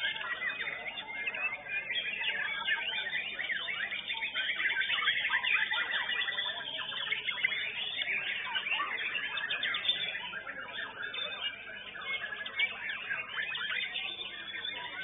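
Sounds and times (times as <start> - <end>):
birds chorus of chirps and trills: 0.0 - 15.0.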